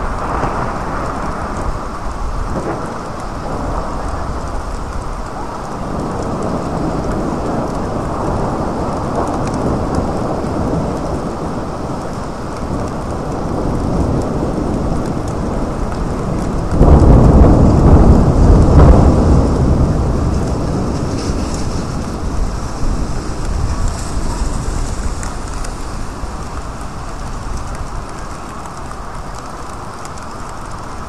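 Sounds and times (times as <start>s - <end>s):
steady rain: 0.0s - 31.0s
thunder rumbling: 0.0s - 31.0s.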